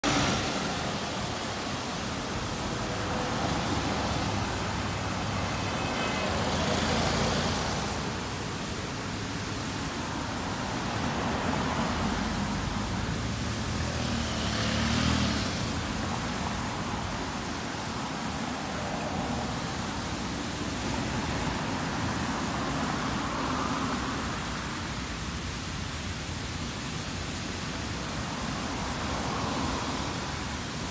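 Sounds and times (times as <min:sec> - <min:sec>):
fountain water splashing: 0:00.0 - 0:30.9.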